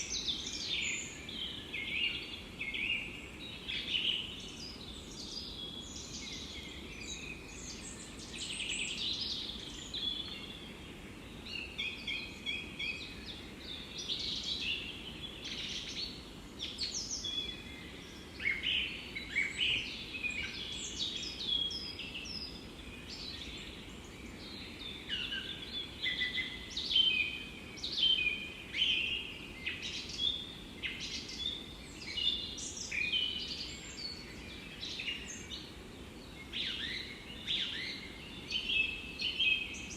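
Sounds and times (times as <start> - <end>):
soft forest hiss: 0.0 - 39.9
songbirds singing: 0.0 - 39.9.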